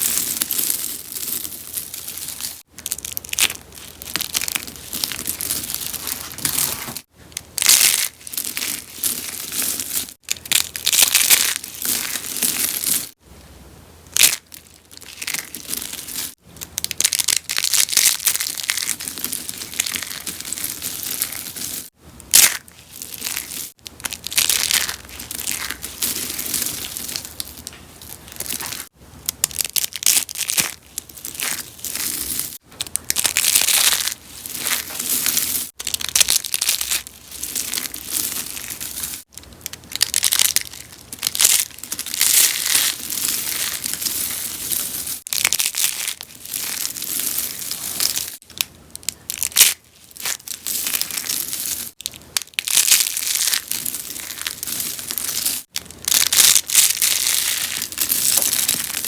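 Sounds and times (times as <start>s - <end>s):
soap being crushed crunching: 0.0s - 13.2s, 14.1s - 59.0s.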